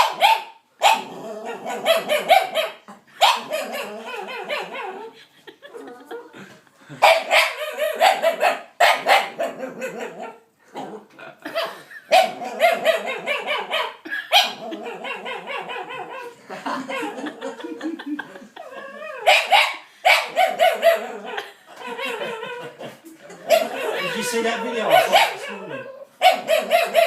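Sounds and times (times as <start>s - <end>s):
dog making weird barking noises: 0.0s - 5.2s, 7.0s - 17.6s, 18.6s - 27.0s.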